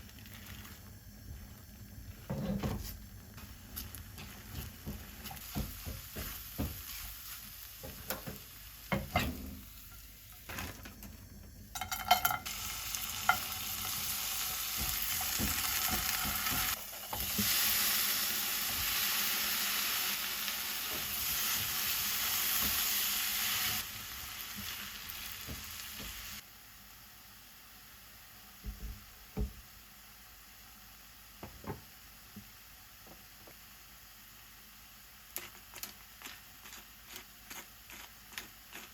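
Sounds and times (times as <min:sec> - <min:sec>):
food sizzling in a hot pan: 0:00.0 - 0:10.5, 0:11.7 - 0:38.8.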